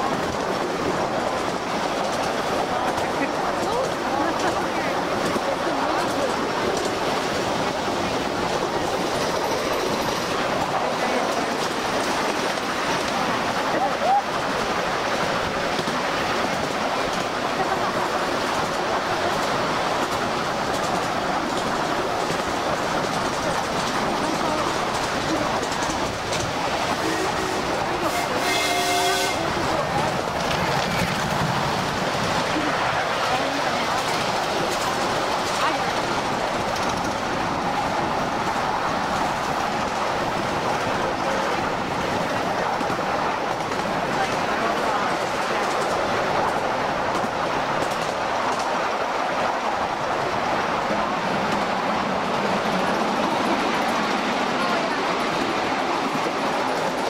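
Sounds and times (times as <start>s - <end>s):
small train wheels rattling on rails: 0.0s - 57.0s.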